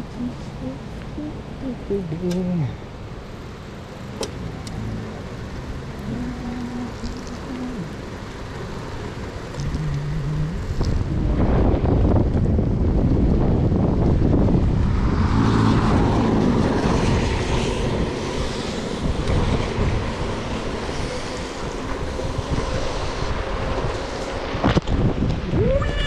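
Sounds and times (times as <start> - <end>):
rain and tyres on wet road: 0.0 - 26.0
wind buffeting microphone: 4.4 - 26.0.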